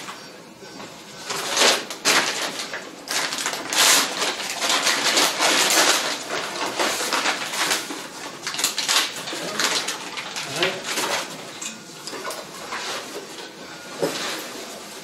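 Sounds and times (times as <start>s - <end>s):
oxygen tubing hissing and rustling: 0.0s - 15.0s.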